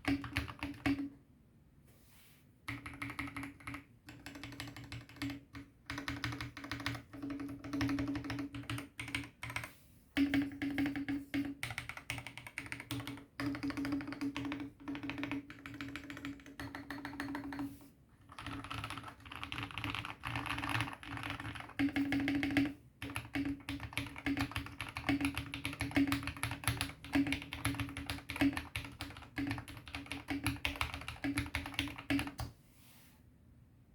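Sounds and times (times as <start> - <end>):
fast mechanical keyboard typing: 0.0 - 1.1, 2.7 - 32.4.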